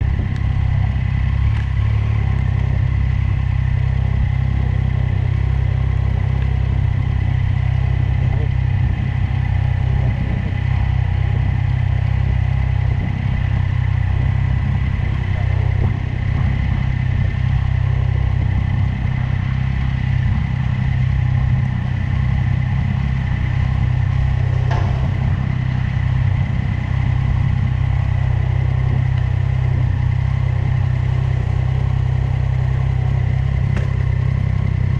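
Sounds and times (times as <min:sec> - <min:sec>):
motorcycle engine running: 0:00.0 - 0:34.9
faint steady whine: 0:00.1 - 0:34.9.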